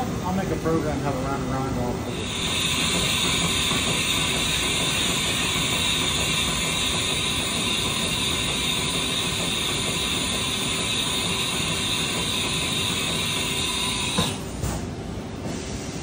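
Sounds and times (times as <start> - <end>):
machining center running: 0.0 - 16.0.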